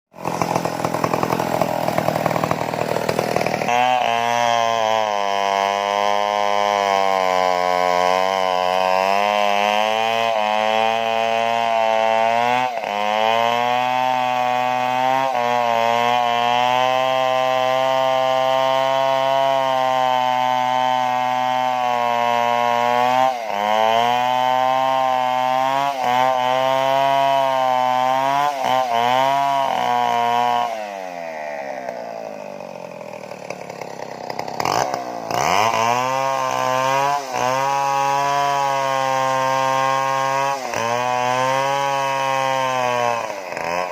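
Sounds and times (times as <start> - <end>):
chainsaw cutting into wood: 0.1 - 43.9.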